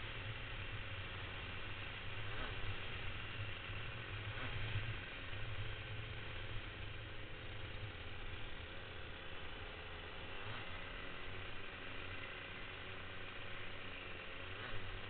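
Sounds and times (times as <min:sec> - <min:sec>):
kart engine running: 0:00.0 - 0:15.0.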